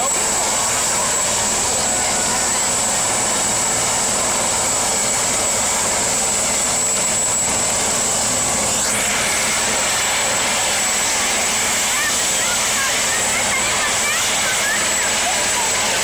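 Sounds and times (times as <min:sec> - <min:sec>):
helicopter turbine whine: 0:00.0 - 0:16.0.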